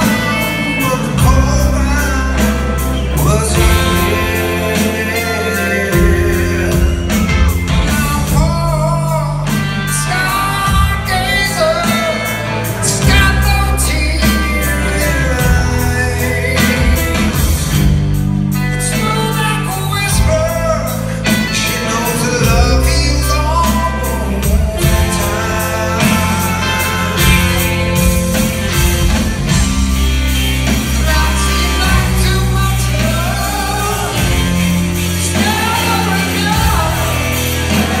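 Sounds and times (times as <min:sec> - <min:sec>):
male lead vocal: 0:00.0 - 0:29.8, 0:30.6 - 0:38.0
live rock band playing: 0:00.0 - 0:38.0.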